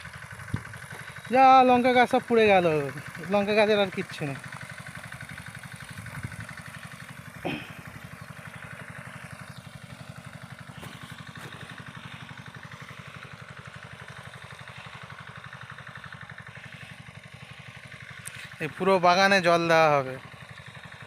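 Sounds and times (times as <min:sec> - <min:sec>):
diesel pump engine chugging: 0:00.0 - 0:21.0.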